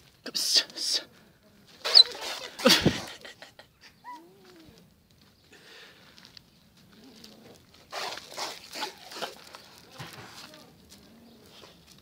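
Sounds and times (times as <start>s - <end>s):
faint shuffling: 0.0s - 12.0s.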